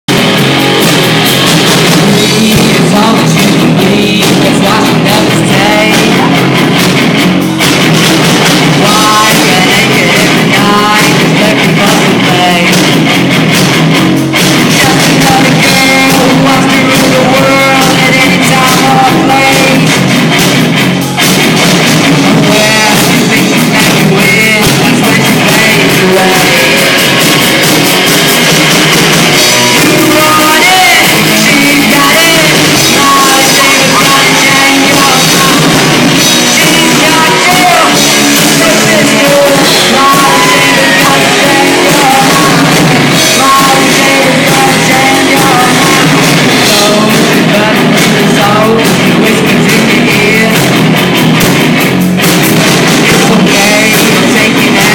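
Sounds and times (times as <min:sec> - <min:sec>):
drums: 0:00.0 - 0:54.9
loud rock music: 0:00.0 - 0:54.9
person singing: 0:01.2 - 0:07.5, 0:08.2 - 0:13.3, 0:14.5 - 0:21.3, 0:22.0 - 0:28.4, 0:29.0 - 0:51.2, 0:52.9 - 0:54.9.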